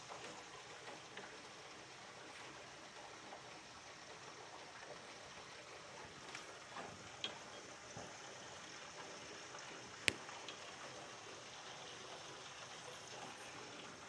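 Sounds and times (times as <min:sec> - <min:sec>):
drips and splashes: 0:00.0 - 0:14.0
heavy rain: 0:00.0 - 0:14.0
water pouring off gutter: 0:00.0 - 0:14.0.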